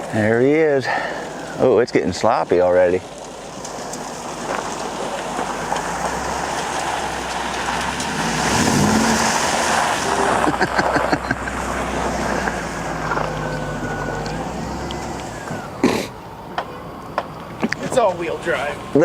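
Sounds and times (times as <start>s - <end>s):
car engine humming: 0.0s - 19.0s
tyre and road noise: 0.0s - 19.0s.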